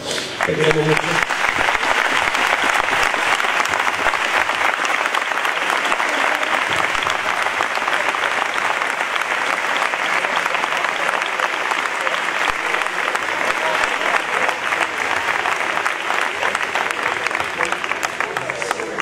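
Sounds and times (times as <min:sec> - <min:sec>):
large crowd applauding: 0:00.0 - 0:19.0.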